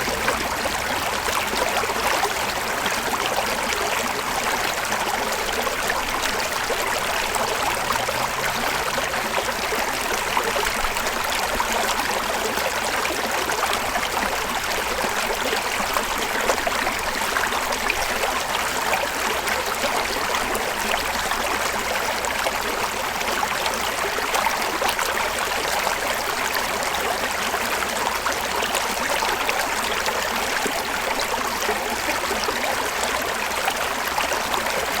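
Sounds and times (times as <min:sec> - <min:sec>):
river water flowing over rocks: 0:00.0 - 0:35.0.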